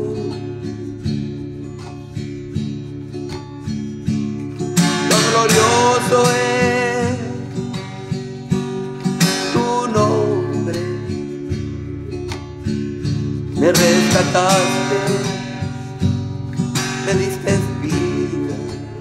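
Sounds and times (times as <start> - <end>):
held melody line: 0.0 - 19.0
strummed acoustic guitar: 0.0 - 19.0.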